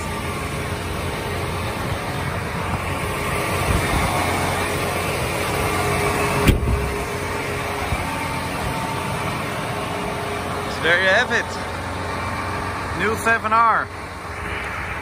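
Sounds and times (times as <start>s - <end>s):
diesel tractor idling: 0.0s - 15.0s.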